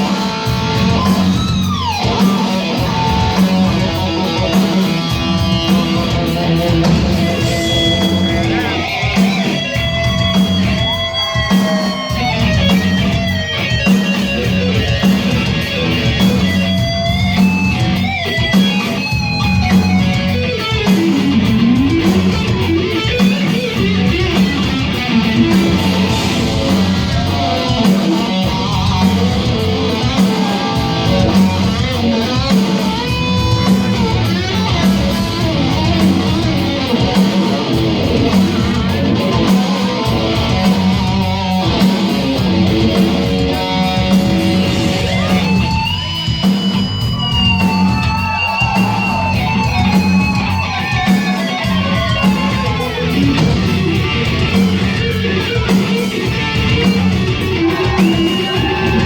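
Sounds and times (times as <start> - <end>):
bass guitar: 0.0 - 59.0
drums: 0.0 - 59.0
electric guitar lead: 0.0 - 59.0.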